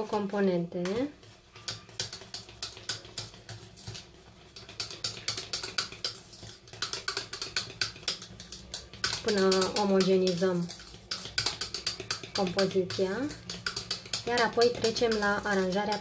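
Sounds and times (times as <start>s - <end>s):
whisk clicking against metal pot: 0.8s - 16.0s.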